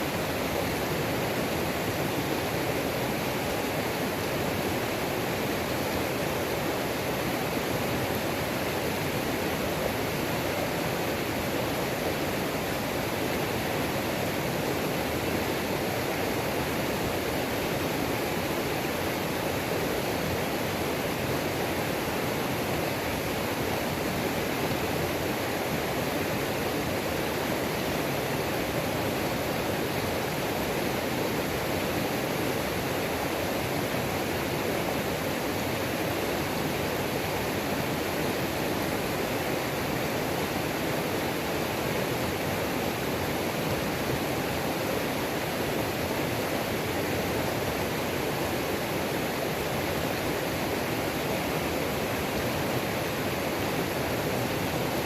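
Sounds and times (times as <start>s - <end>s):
water cascading over rocks: 0.0s - 55.0s.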